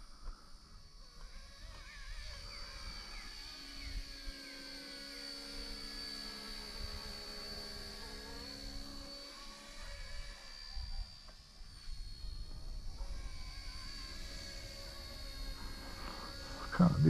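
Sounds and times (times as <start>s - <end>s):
rc helicopter whine: 0.0s - 17.0s.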